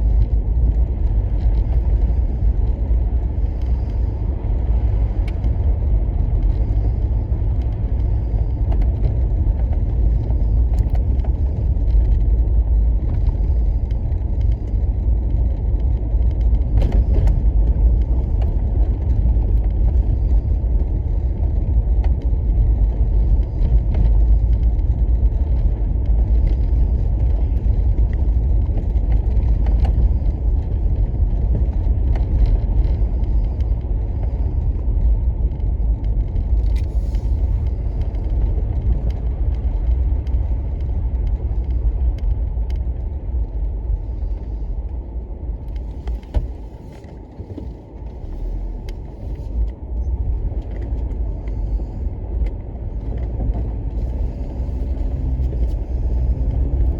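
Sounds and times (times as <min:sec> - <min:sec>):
car driving rumble: 0:00.0 - 0:56.9.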